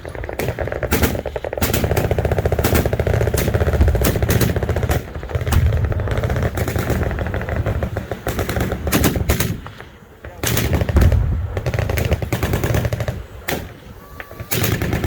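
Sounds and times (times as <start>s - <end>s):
machine guns firing bursts: 0.0s - 13.8s, 14.5s - 15.0s.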